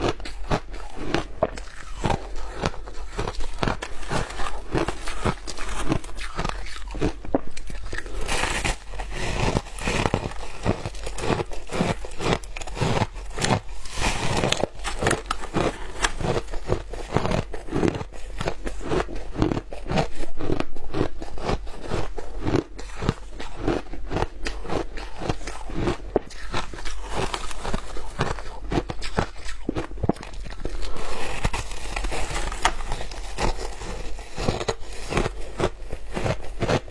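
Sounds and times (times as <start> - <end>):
shaved ice crunching when chewed: 0.0 - 36.9.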